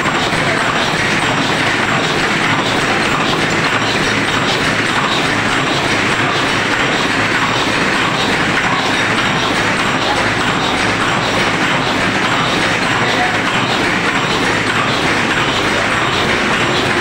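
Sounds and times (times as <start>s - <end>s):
machine mechanical clatter: 0.0s - 17.0s.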